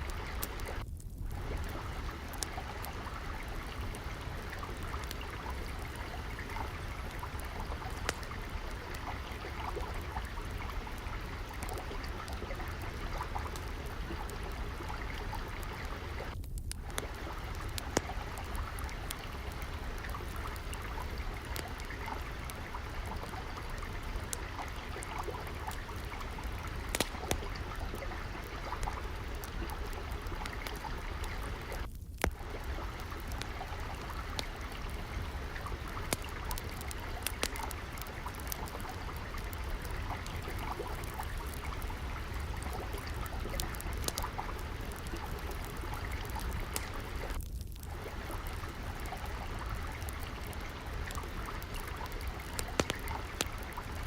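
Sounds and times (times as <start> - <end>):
water flowing and trickling: 0.0 - 54.0
wood fire crackling: 0.0 - 54.0.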